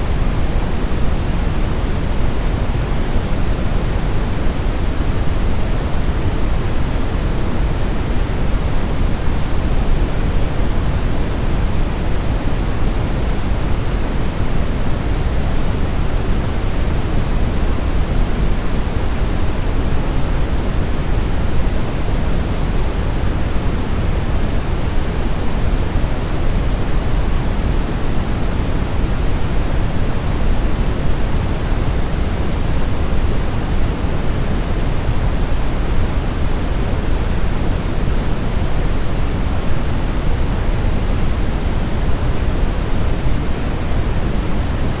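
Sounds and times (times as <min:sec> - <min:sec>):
brown noise hiss: 0:00.0 - 0:45.0.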